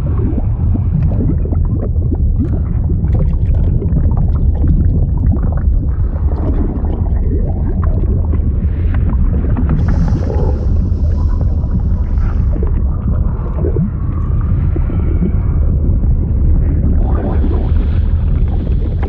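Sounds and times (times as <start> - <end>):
deep water rumble: 0.0 - 19.0.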